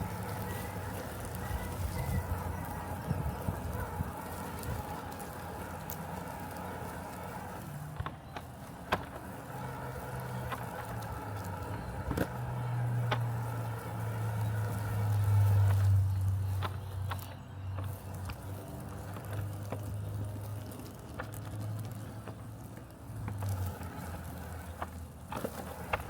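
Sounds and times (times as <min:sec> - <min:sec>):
robotic lawn mower humming: 0:00.0 - 0:26.0.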